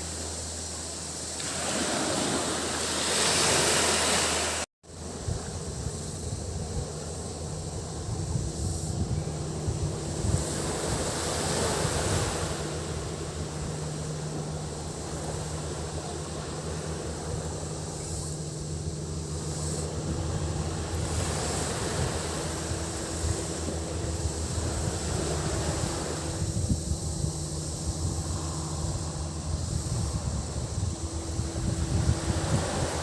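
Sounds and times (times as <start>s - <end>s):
sea waves washing onto beach: 0.0s - 6.0s, 9.3s - 26.6s, 29.8s - 33.0s
cicadas droning: 0.0s - 33.0s
low steady hum: 4.9s - 33.0s.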